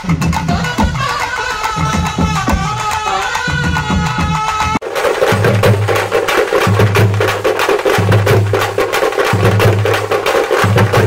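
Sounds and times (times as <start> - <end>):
folk drummers beating drums: 0.0 - 11.0.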